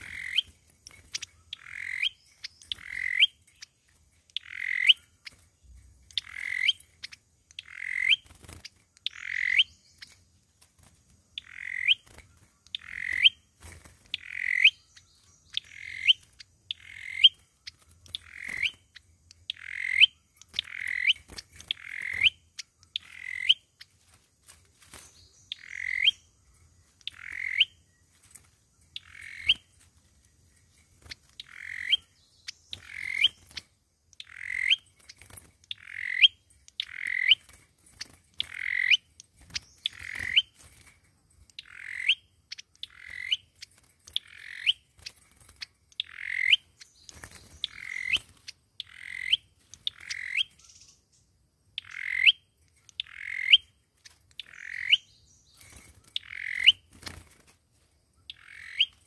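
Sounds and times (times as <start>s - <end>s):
songbird calling upward notes: 0.0s - 10.3s, 11.4s - 23.9s, 25.0s - 28.1s, 28.9s - 29.7s, 31.0s - 40.6s, 41.5s - 45.1s, 45.9s - 51.2s, 51.8s - 53.8s, 54.4s - 56.9s, 58.2s - 59.0s.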